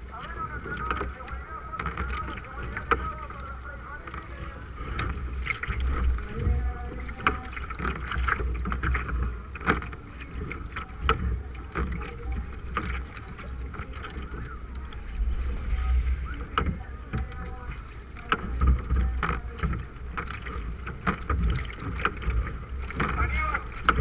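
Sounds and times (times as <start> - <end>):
paddle splashing in water: 0.0 - 24.0
water washing against hull: 0.0 - 24.0
wind buffeting microphone: 0.0 - 24.0.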